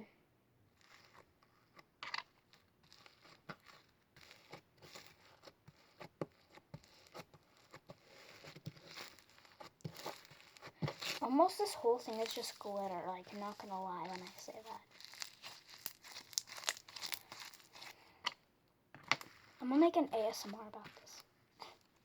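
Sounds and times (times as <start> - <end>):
slime crackling and crunching: 0.8 - 18.4, 19.0 - 22.0.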